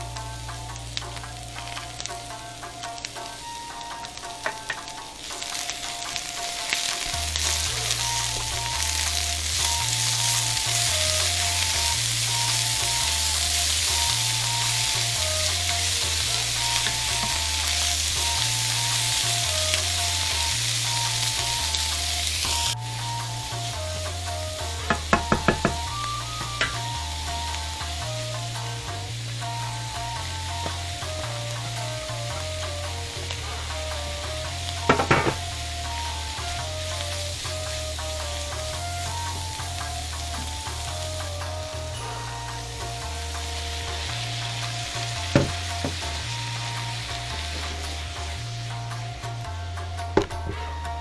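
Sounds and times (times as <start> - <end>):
vegetables sizzling in a frying pan: 0.0 - 51.0.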